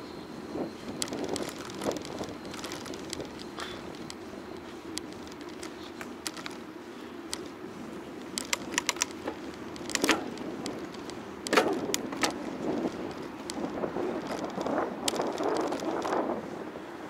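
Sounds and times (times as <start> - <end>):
bicycle rattling clicks and knocks: 0.0 - 16.4
bicycle low hum: 0.0 - 17.0.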